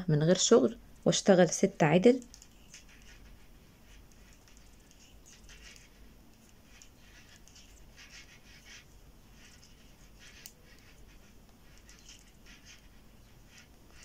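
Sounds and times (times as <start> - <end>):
yarn scratching on knitting needles: 1.9 - 14.0.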